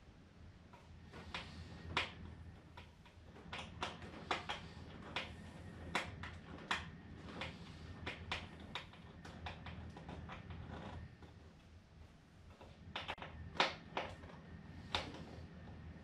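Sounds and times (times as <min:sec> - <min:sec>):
hands clicking on plastic model: 0:00.8 - 0:11.0, 0:12.5 - 0:15.2.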